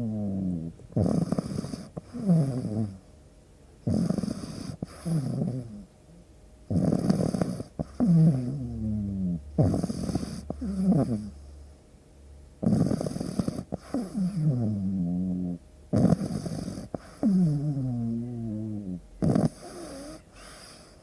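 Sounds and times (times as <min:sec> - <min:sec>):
dog snoring: 0:00.0 - 0:03.1, 0:03.8 - 0:05.9, 0:06.6 - 0:11.5, 0:12.6 - 0:21.0.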